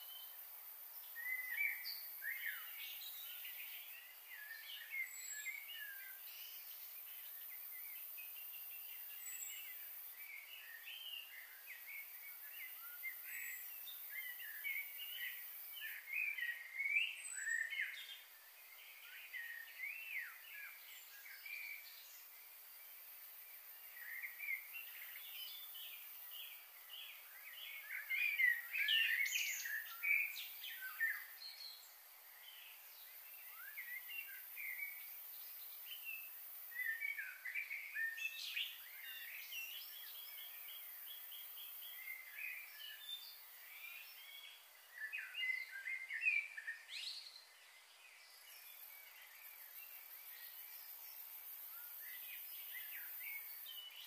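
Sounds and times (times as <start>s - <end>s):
faint steady hiss: 0.0s - 54.0s
small birds chirping: 0.0s - 54.0s.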